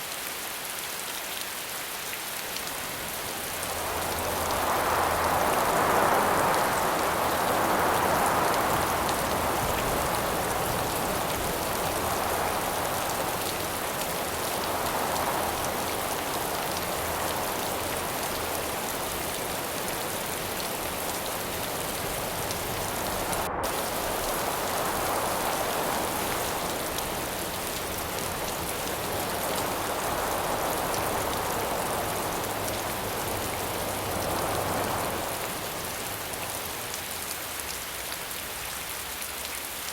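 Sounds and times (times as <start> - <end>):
steady rain falling: 0.0 - 39.9
wind: 0.0 - 39.9.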